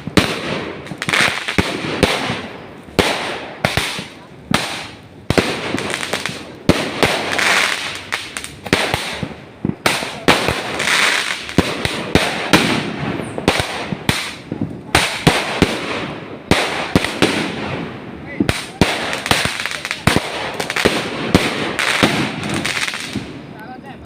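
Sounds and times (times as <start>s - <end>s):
fireworks banging: 0.0s - 23.9s
fireworks hissing crackle: 0.0s - 24.0s.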